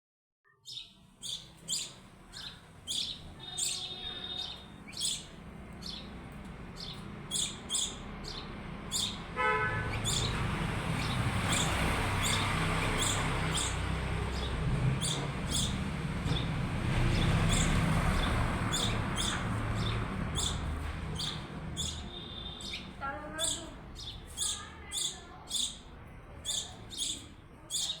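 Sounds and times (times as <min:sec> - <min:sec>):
small birds chirping: 0:00.5 - 0:28.0.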